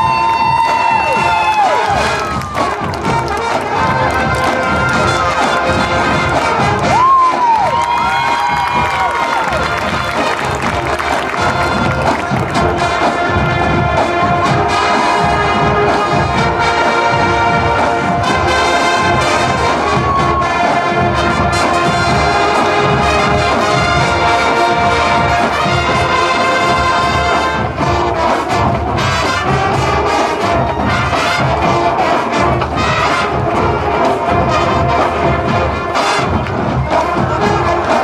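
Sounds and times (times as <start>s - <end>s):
marching band playing: 0.0s - 38.0s
percussion hits: 0.0s - 38.0s
trumpets and trombones chords: 0.0s - 38.0s.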